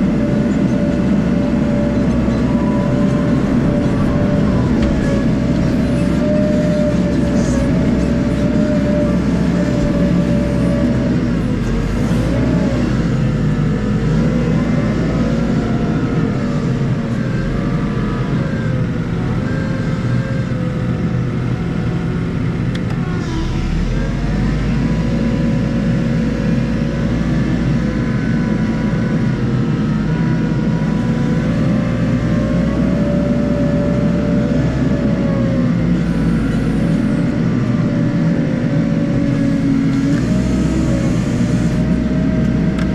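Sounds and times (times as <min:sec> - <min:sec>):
diesel engine working: 0:00.0 - 0:42.9.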